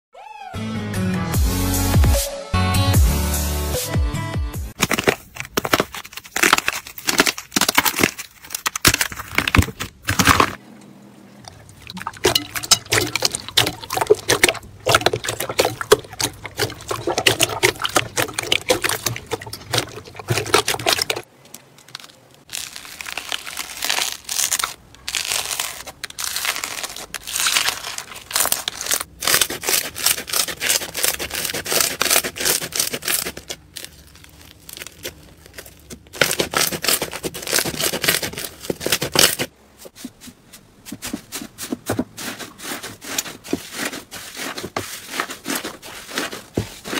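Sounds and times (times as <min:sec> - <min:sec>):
slime squishing and crackling: 0:04.8 - 0:10.6, 0:11.7 - 0:39.5, 0:42.6 - 0:46.9.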